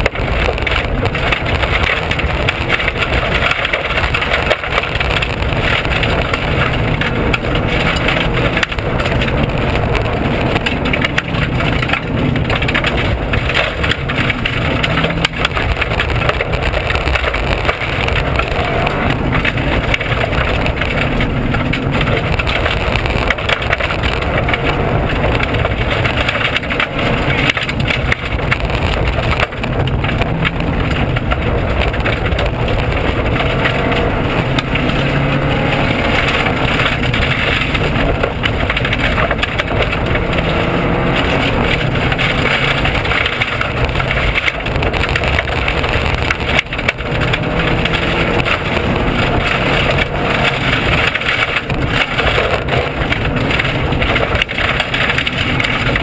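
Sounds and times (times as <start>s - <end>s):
car engine running hard: 0.0s - 56.0s
knocks and rattles: 0.0s - 56.0s
road roar: 0.0s - 56.0s.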